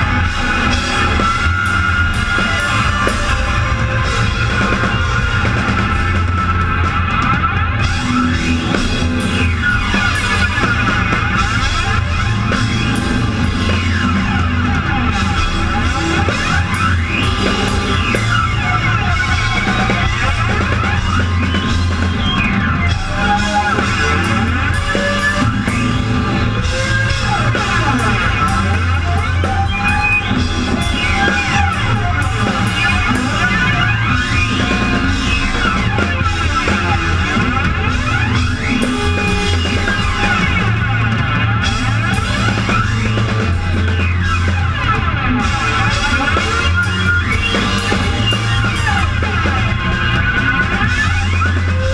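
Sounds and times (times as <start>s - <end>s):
drums and cymbals: 0.0s - 51.9s
rock band playing live: 0.0s - 51.9s.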